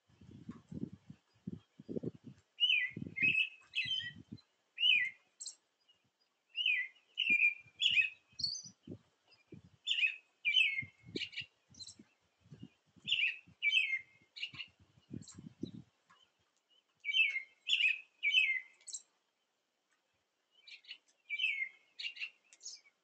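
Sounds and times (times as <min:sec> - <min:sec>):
birds singing: 0:00.0 - 0:23.0.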